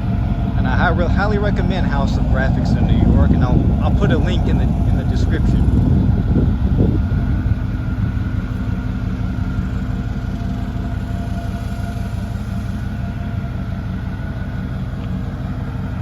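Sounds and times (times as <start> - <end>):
pickup engine rumbling: 0.0 - 16.0.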